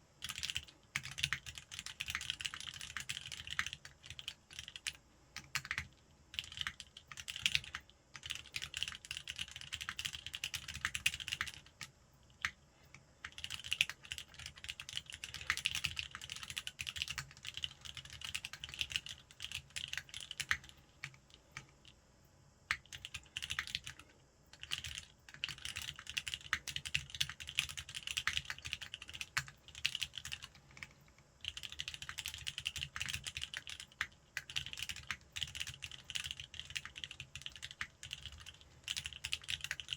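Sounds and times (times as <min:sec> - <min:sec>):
mechanical keyboard typing: 0:00.2 - 0:12.6, 0:13.2 - 0:21.7, 0:22.7 - 0:39.9.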